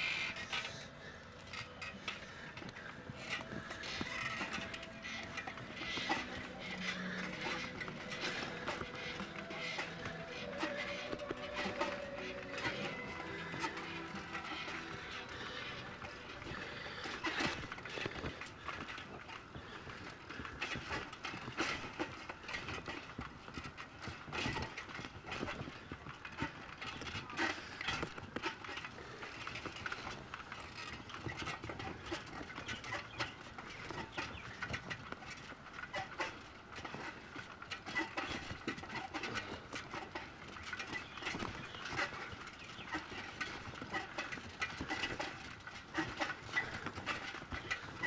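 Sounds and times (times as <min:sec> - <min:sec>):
bicycle clicking and rattling: 0:00.0 - 0:48.0.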